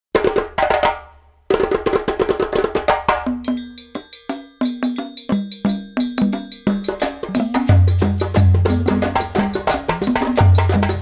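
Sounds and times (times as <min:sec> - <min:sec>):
crisp percussive music: 0:00.1 - 0:11.0.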